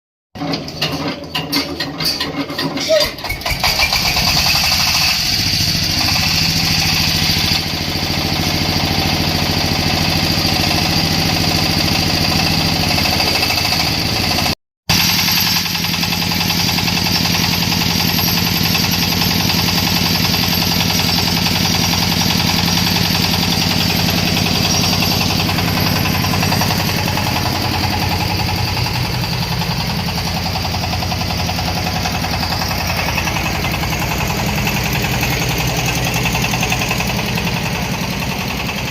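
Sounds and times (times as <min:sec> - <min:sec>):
corn sheller engine running: 0:00.4 - 0:38.9.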